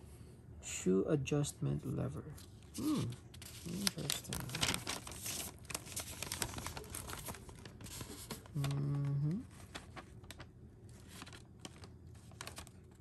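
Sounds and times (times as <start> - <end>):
paper crinkling and rustling: 2.3 - 13.0.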